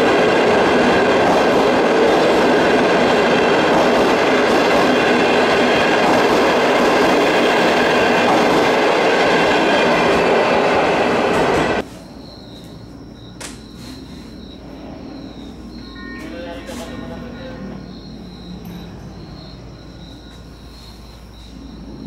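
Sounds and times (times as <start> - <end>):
train coaches rushing past: 0.0 - 12.0, 13.8 - 22.0.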